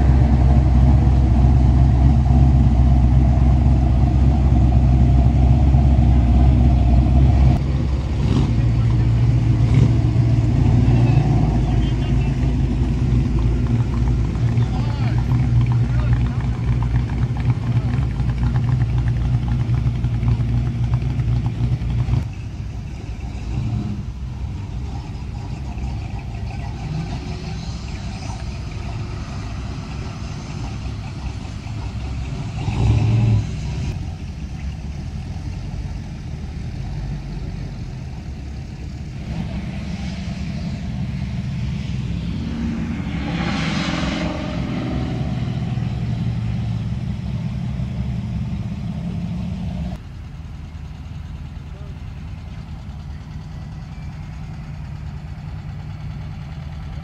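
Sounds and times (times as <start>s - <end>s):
burst of engine noise: 0.0s - 57.0s
vehicles driving slowly past: 0.0s - 57.0s.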